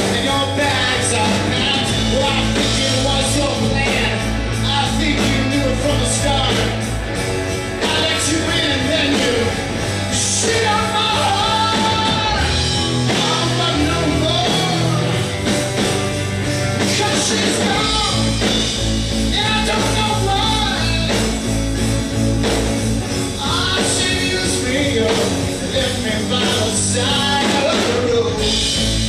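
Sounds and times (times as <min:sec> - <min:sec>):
electric guitar bending melody: 0:00.0 - 0:29.0
live rock band playing: 0:00.0 - 0:29.0.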